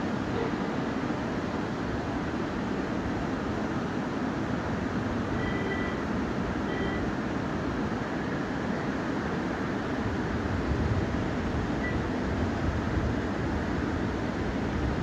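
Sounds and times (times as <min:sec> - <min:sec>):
river flowing: 0:00.0 - 0:14.8.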